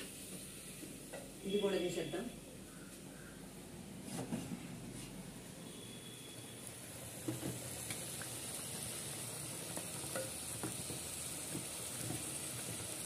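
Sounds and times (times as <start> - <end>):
food simmering with a hiss: 0.0 - 1.8, 2.5 - 13.0.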